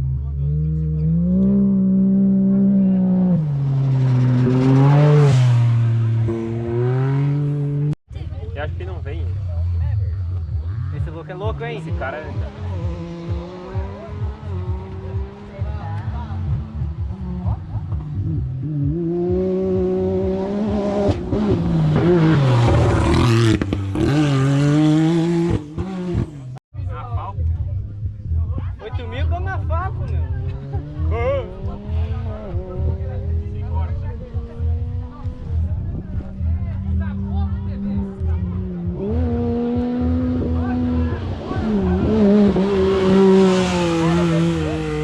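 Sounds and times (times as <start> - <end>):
rally car engine passing: 0.0 - 8.0, 8.6 - 26.6, 28.8 - 45.0.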